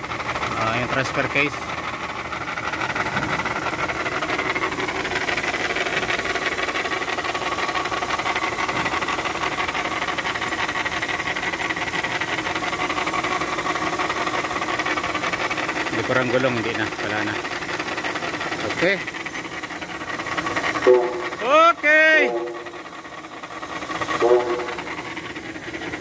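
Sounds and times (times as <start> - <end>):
gears grinding whine: 0.0 - 26.0.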